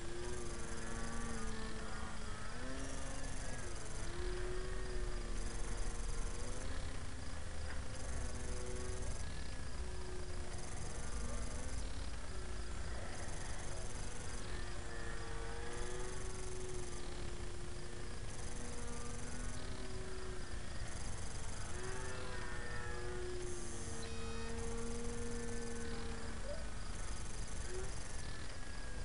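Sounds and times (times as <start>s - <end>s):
model airplane motor whine: 0.0s - 29.0s.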